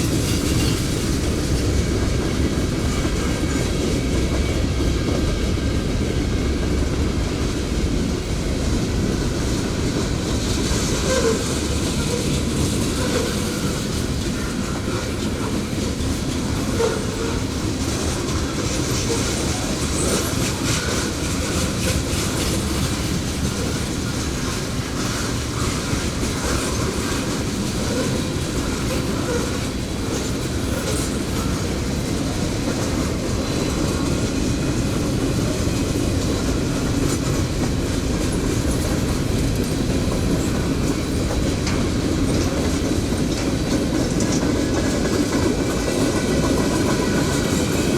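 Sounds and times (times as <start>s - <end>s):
wheels clacking over rail joints: 0.0s - 47.9s.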